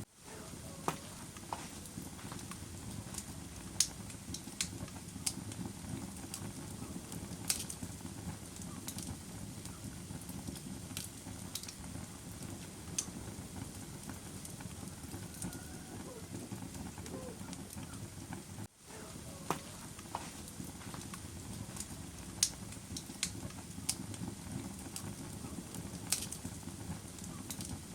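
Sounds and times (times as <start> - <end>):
bonfire crackling: 0.0 - 27.9.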